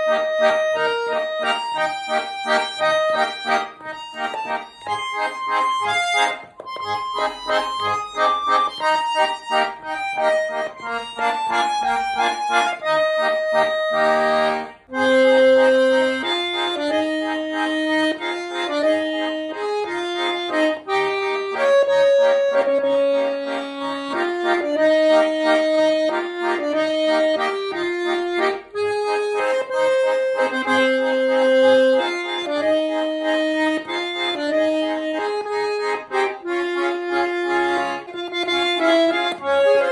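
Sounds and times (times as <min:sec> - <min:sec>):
button accordion folk tune: 0:00.0 - 0:39.9.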